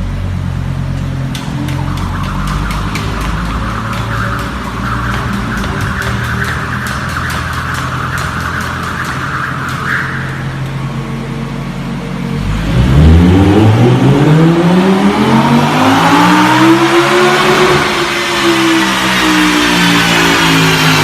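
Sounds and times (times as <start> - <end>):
car engine accelerating hard: 1.8 - 21.0.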